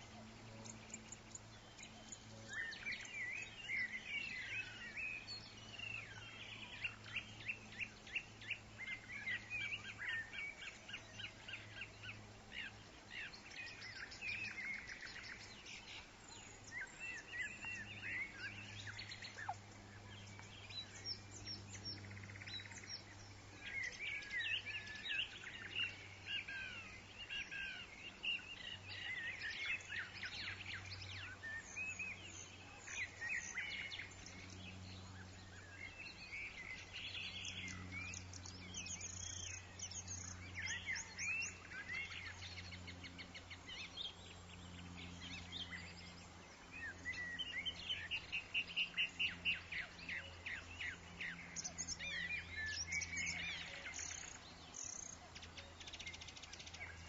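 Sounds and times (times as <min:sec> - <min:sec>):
faint low hum: 0:00.0 - 0:57.0
songbirds chirping and trilling: 0:00.0 - 0:57.0.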